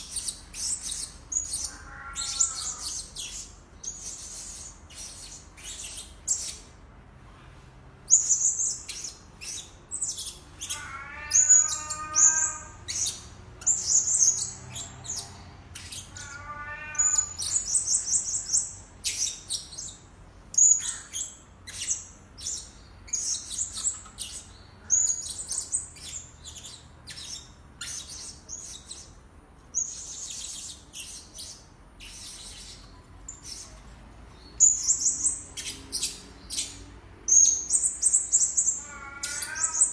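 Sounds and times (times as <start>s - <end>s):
parrots chirping shrilly: 0.0s - 6.7s, 8.1s - 33.8s, 34.6s - 39.9s.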